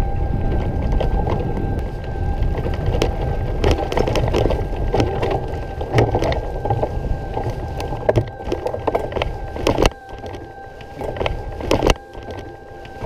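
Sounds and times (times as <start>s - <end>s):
faint steady whine: 0.0s - 13.0s
moving vehicle rumble: 0.0s - 13.0s.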